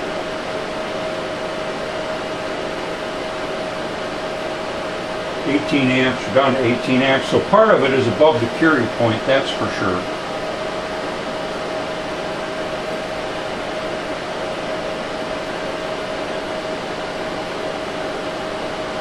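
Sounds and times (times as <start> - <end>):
fan-like whir and hiss: 0.0 - 19.0
mid-pitched hum: 0.0 - 19.0.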